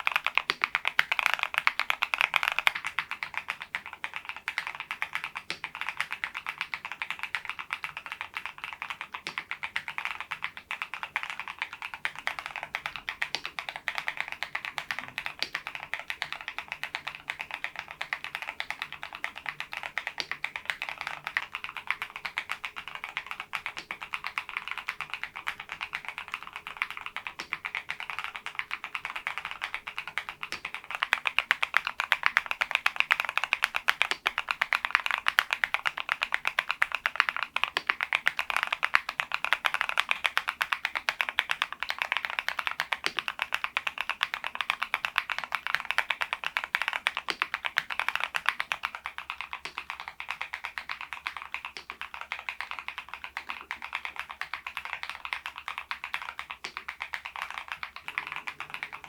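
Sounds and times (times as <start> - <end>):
fast mechanical keyboard typing: 0.0 - 59.0.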